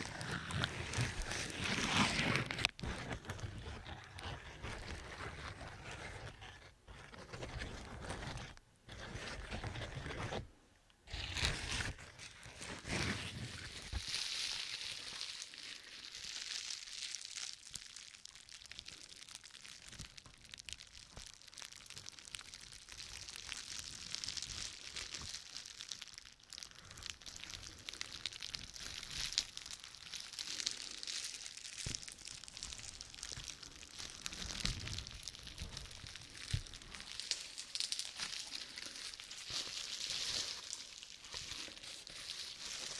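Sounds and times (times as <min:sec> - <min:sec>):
bubble wrap crinkling: 0:00.0 - 0:10.4, 0:11.0 - 0:42.9.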